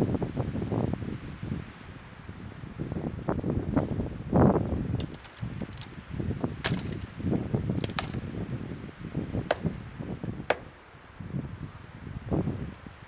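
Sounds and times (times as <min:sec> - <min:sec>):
gusting wind on microphone: 0:00.0 - 0:13.0.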